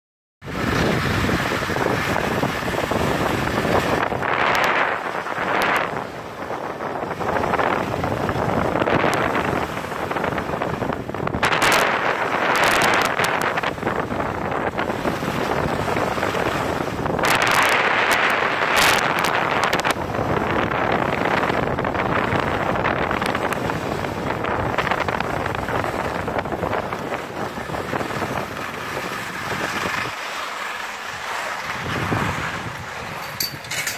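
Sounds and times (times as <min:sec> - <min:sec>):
wind on microphone: 0:00.4 - 0:30.4, 0:31.0 - 0:33.9
skis scraping over snow: 0:00.5 - 0:33.3.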